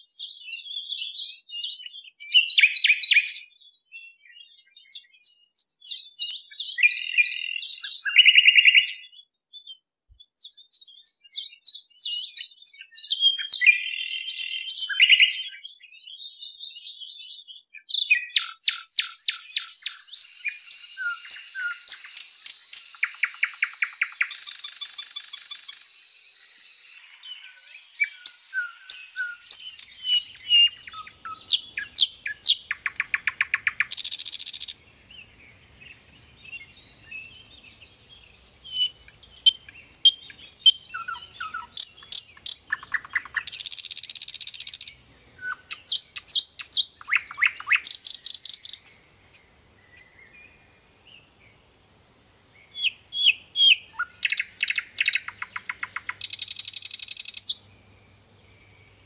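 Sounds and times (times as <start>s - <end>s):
nightingale singing: 0.0s - 59.0s.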